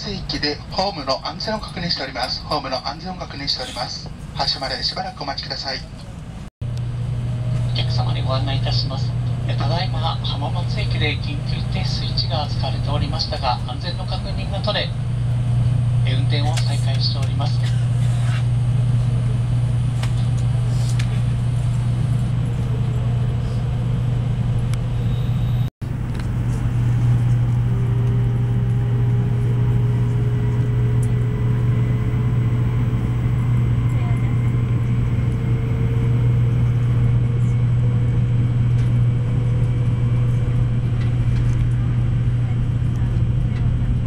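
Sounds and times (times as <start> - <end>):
train cabin hum: 0.0 - 44.0
faint motor whine rising: 6.7 - 44.0.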